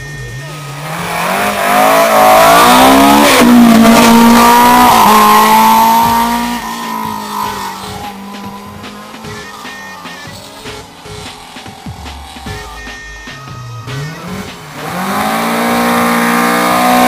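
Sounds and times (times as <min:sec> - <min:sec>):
rally car engine passing by: 0:00.1 - 0:12.8, 0:13.5 - 0:17.0.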